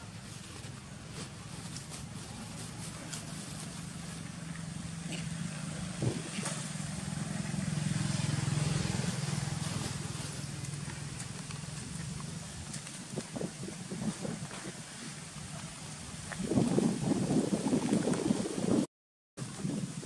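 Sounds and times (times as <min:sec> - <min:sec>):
motor engine low hum: 0:00.0 - 0:18.2.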